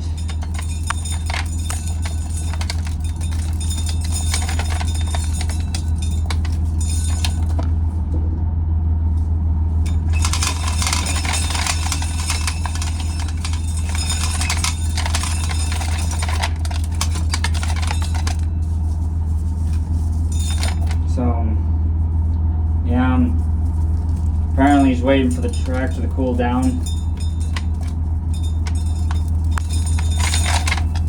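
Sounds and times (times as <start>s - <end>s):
dry rattling and clattering: 0.0s - 8.2s, 9.1s - 21.3s, 22.0s - 31.0s
tractor engine running: 0.0s - 31.0s.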